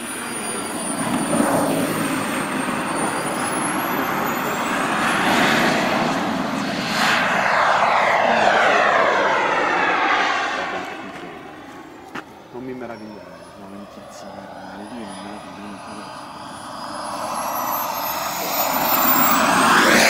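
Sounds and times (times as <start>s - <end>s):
model jet turbine whine: 0.0s - 20.0s.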